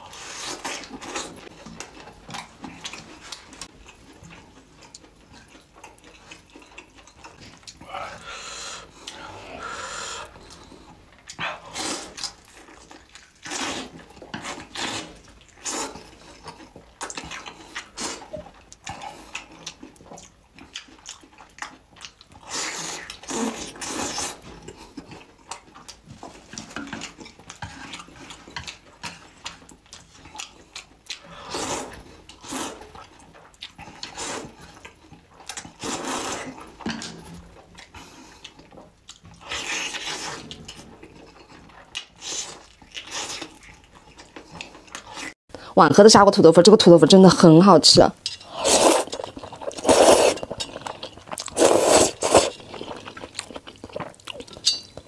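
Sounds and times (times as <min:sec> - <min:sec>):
chewing and wet smacks: 0:00.0 - 0:45.4, 0:48.1 - 0:55.0.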